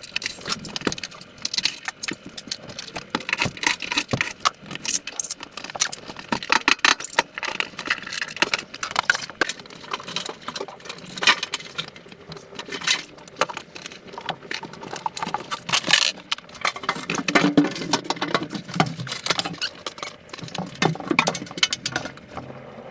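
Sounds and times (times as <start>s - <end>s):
hand tools and metal parts clinking: 0.0s - 22.4s.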